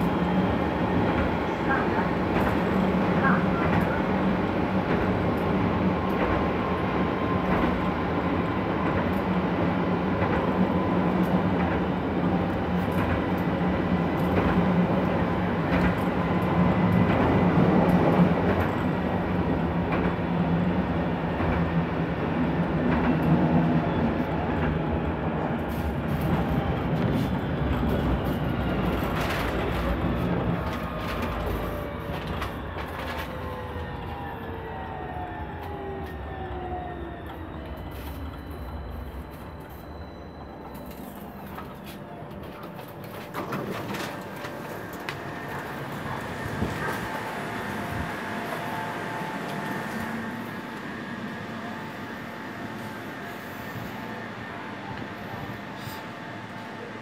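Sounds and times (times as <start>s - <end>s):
tram wheels on rails: 0.0s - 57.0s.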